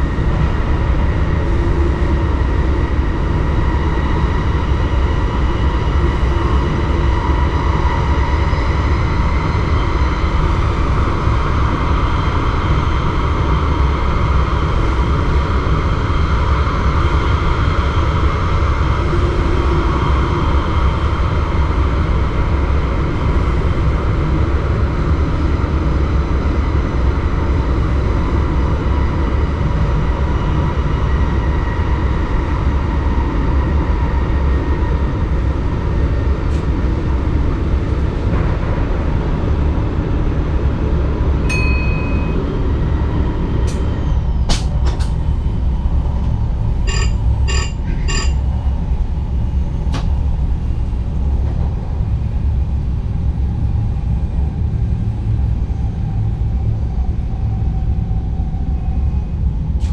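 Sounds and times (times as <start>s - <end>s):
constant high whine: 0.0s - 59.9s
train low rumble: 0.0s - 59.9s.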